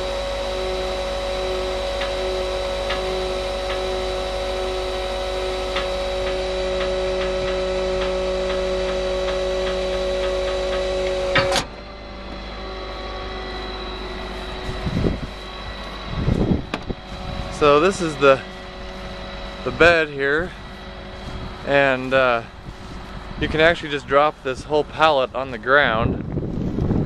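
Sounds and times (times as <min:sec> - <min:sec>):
hydraulic system whining hum: 0:00.0 - 0:27.0.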